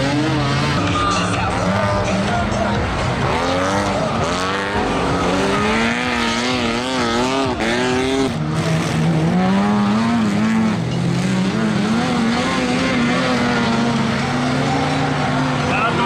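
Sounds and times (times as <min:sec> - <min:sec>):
combine harvester engines revving: 0:00.0 - 0:16.0
lower engine passing close: 0:00.0 - 0:16.0.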